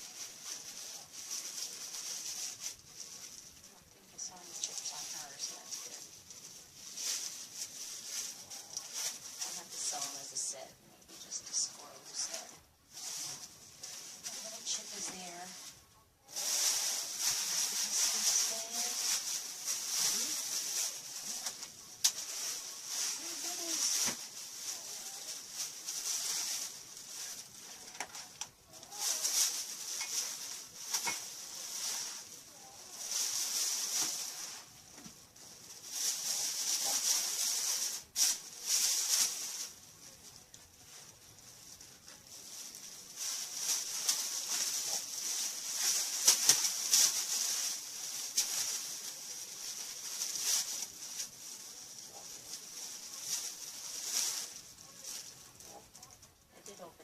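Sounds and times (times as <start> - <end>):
packing material crinkling: 0.0 - 57.0.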